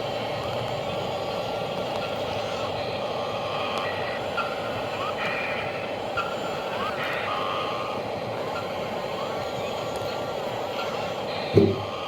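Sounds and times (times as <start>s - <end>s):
excavator running: 0.0s - 12.0s.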